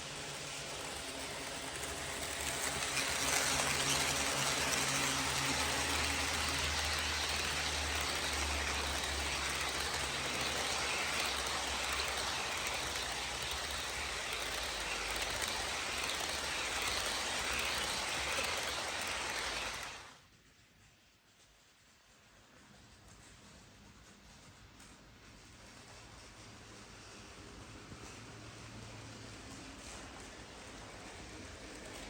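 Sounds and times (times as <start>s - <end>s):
model train wheels rolling: 0.0s - 32.0s.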